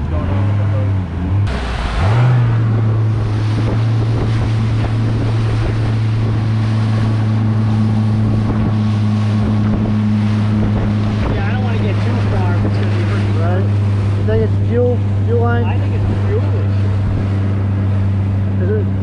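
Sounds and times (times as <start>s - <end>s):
outboard motor running: 0.0s - 19.0s
wind rush on microphone: 1.4s - 19.0s
hull spray: 1.5s - 19.0s.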